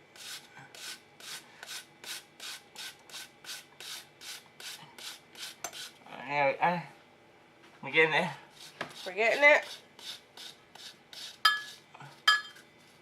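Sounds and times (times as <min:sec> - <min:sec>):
apple rasping on a grater: 0:00.1 - 0:06.0, 0:08.5 - 0:13.0.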